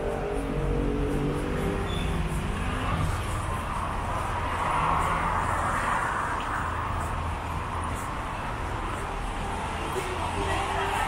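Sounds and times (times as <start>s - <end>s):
engine rumble of passing vehicles: 0.0s - 11.0s.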